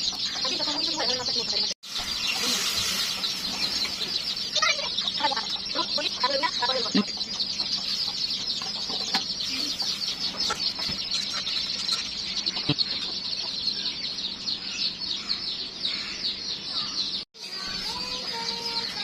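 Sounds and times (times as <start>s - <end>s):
chickens clucking and chirping: 0.0s - 19.0s.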